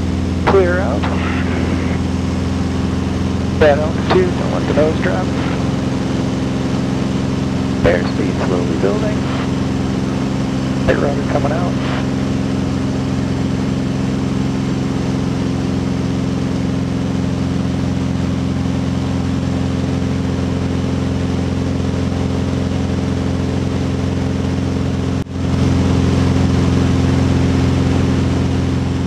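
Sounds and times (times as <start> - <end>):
airplane engine droning in cabin: 0.0 - 29.0.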